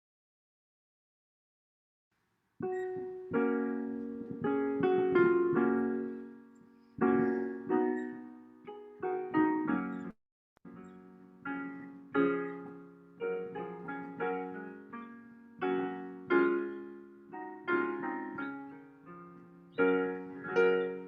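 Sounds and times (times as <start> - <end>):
piano playing slow chords: 2.6 - 21.0.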